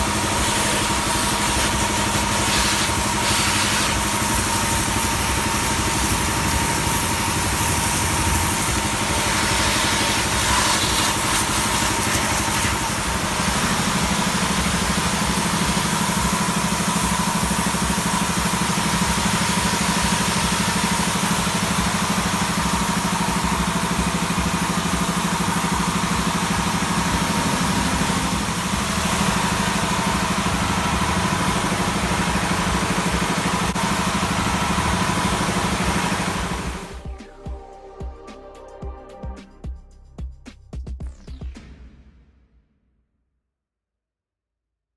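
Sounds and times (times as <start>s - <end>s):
power sprayer machine running: 0.0s - 37.1s.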